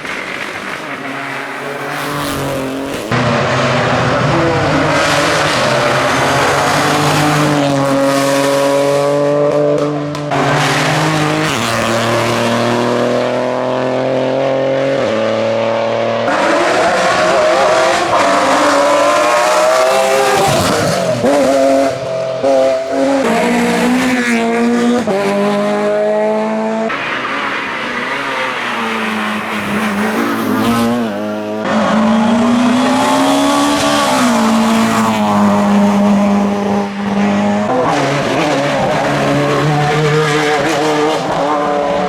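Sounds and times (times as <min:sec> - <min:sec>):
race car engine at hard throttle: 0:00.0 - 0:42.0.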